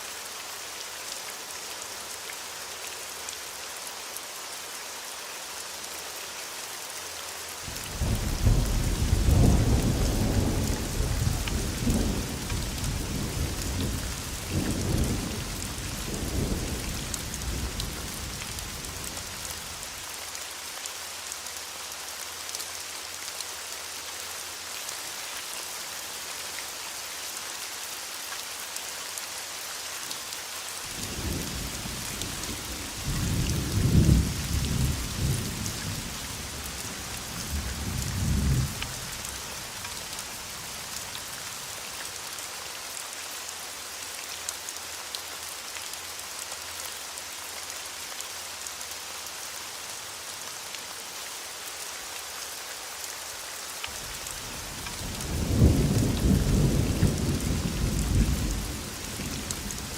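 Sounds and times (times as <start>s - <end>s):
rain hissing on surfaces: 0.0s - 59.9s.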